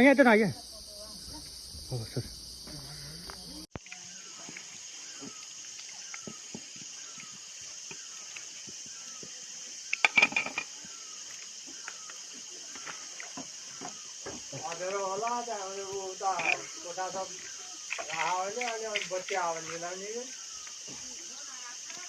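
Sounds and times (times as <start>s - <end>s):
insect drone: 0.0s - 22.0s
small birds chirping: 0.0s - 22.0s.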